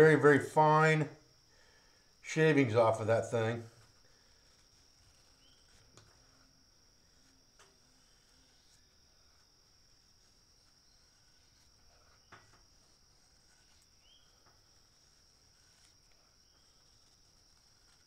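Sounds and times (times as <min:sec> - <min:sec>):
insect trilling: 0:00.0 - 0:18.0
knife shaving wood: 0:00.0 - 0:18.0.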